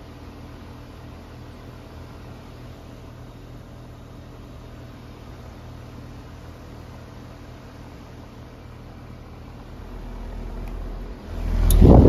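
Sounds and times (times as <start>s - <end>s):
heat pump unit humming: 0.0s - 12.0s.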